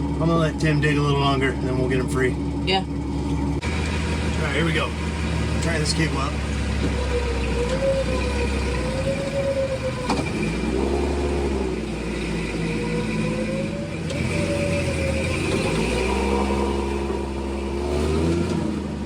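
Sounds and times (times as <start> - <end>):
engine running: 0.0 - 19.0
electric winch motor whine: 3.2 - 18.5.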